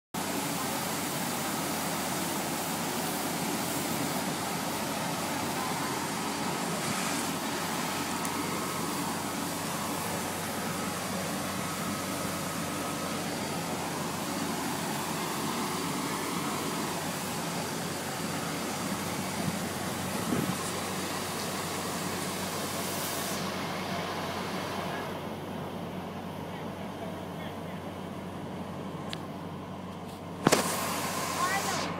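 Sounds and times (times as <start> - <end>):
rushing noise: 0.2 - 25.2, 30.4 - 31.9
diesel engines droning: 0.2 - 31.9.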